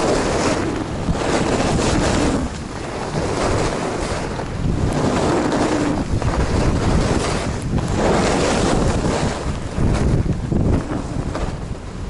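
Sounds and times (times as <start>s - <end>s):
ski edges scraping snow: 0.0s - 11.6s
wind rushing over microphone: 0.0s - 12.0s.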